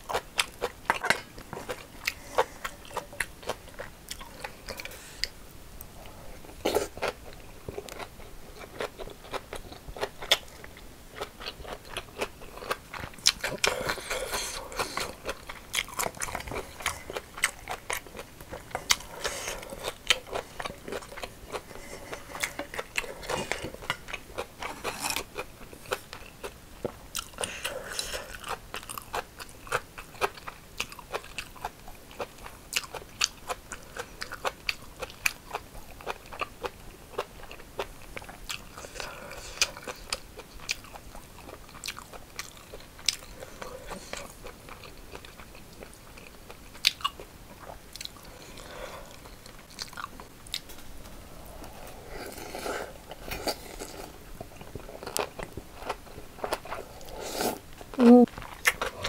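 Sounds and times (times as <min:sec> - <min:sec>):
chewing and crunching food: 0:00.0 - 0:59.0.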